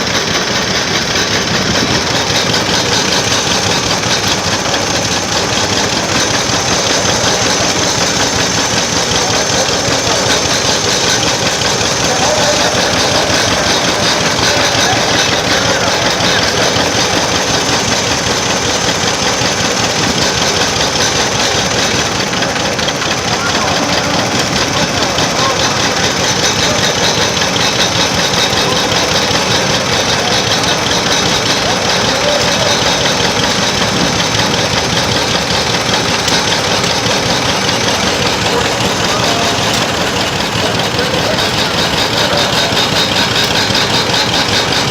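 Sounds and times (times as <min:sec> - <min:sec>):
engine running loud and close: 0:00.0 - 0:44.9.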